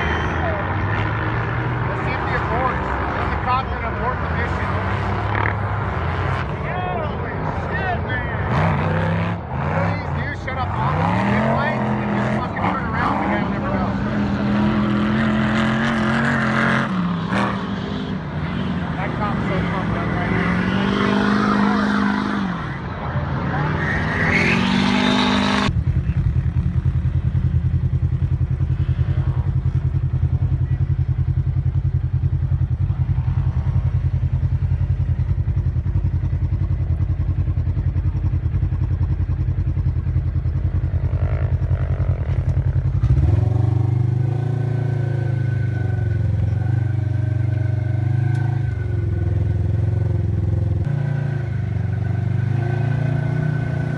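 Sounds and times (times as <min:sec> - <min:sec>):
engines revving: 0:00.0 - 0:53.9
higher engine note with whine: 0:08.4 - 0:53.9.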